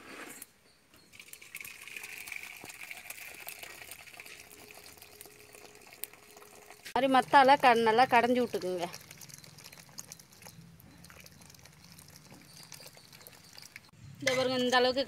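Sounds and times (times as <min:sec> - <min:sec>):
liquid pouring between metal pots: 0:01.1 - 0:14.7.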